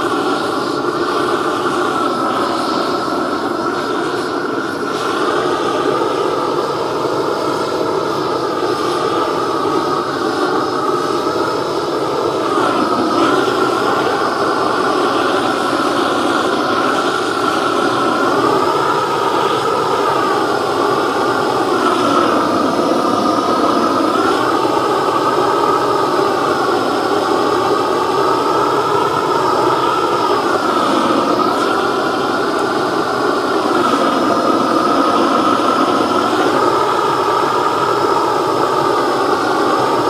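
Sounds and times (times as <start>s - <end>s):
propane torch rushing: 0.0s - 40.0s.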